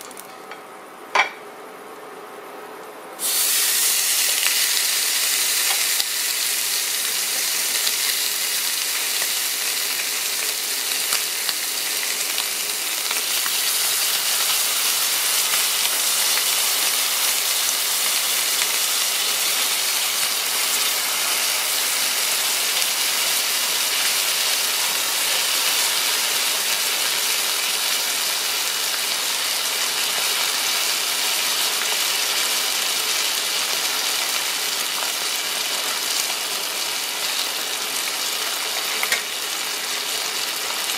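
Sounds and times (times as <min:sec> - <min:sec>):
steak sizzling in a skillet: 0:03.2 - 0:40.9.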